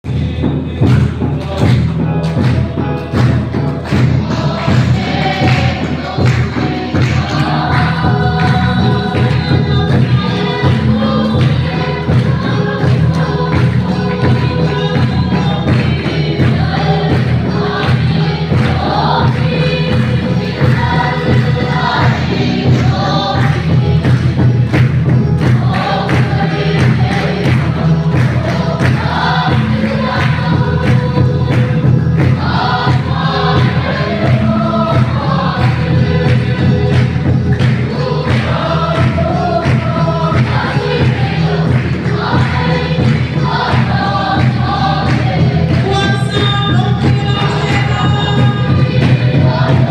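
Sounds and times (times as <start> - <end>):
group singing gospel song: 0.1 - 49.9
steady drum beat: 0.1 - 49.9.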